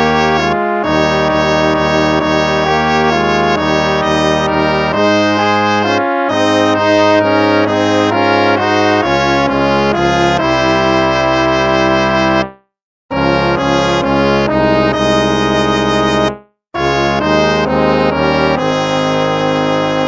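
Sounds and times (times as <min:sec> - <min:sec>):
instrumental hymn music: 0:00.0 - 0:20.0.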